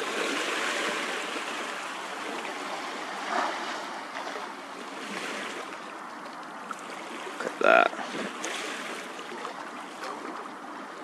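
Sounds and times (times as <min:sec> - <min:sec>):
water washing at shoreline: 0:00.0 - 0:11.0.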